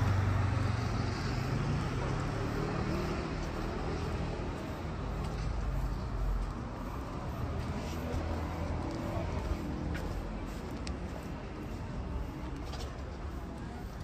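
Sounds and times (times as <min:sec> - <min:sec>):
passing cars rumbling: 0:00.0 - 0:14.0.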